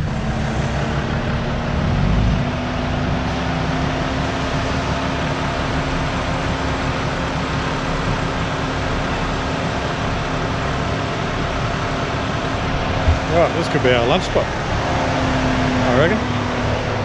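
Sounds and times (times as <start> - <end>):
off-road vehicle engine: 0.0 - 17.0.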